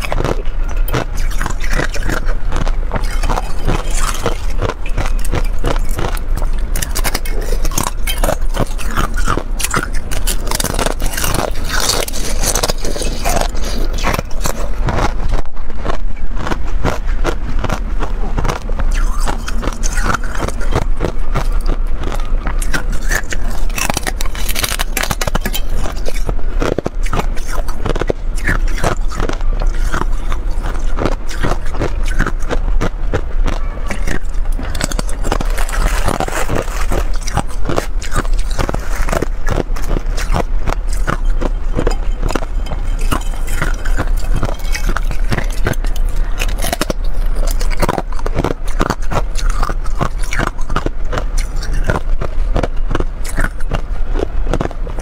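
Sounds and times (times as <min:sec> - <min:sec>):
ice being bitten and crunched: 0:00.0 - 0:55.0.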